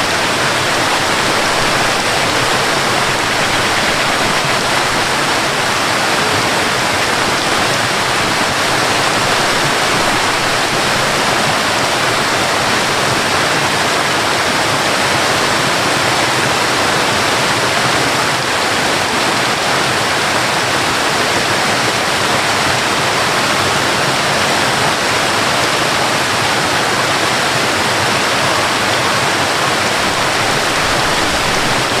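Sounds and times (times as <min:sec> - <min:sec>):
rain: 0:00.0 - 0:32.0
waterfall rushing: 0:00.0 - 0:32.0.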